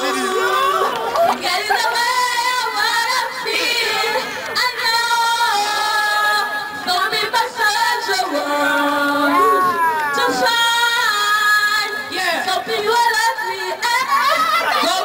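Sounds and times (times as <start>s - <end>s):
women singing amplified: 0.0s - 15.0s.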